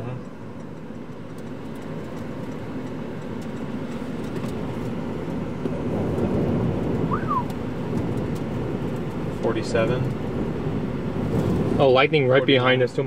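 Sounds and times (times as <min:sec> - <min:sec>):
wind buffeting a vehicle: 0:00.0 - 0:13.0.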